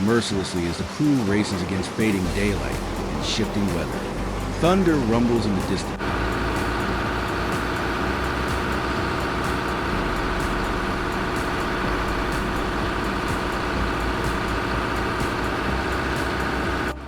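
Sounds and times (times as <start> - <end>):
heavy machine engine drone: 2.0 - 17.0.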